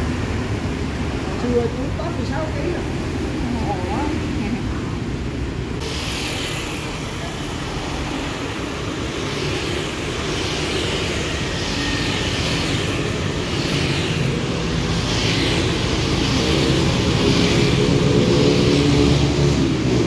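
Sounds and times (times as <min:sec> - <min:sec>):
motorbikes and cars passing: 0:00.0 - 0:20.0.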